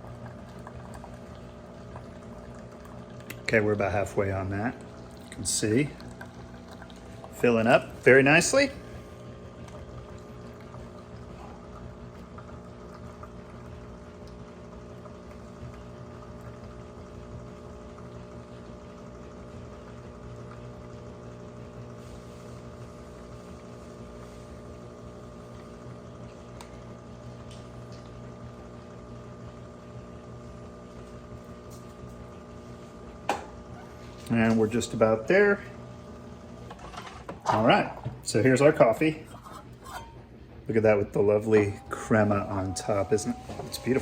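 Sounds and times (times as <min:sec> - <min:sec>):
coffee machine hum: 0:00.0 - 0:44.0
coffee pouring into mug: 0:00.0 - 0:44.0.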